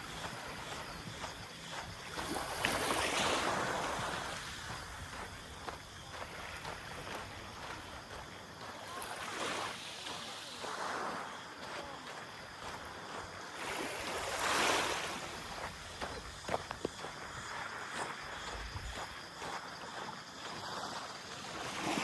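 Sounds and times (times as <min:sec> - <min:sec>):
small waves washing onto beach: 0:00.0 - 0:22.0.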